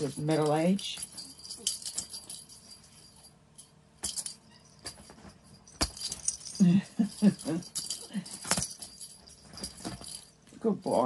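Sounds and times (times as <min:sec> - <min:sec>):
metal collar tags jingling: 0:00.0 - 0:11.0.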